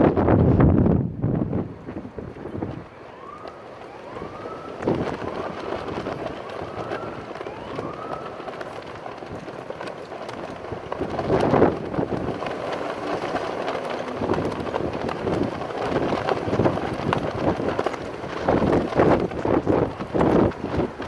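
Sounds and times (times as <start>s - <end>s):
gusty wind on microphone: 0.0s - 3.4s, 4.0s - 21.0s
distant siren wailing: 2.0s - 21.0s.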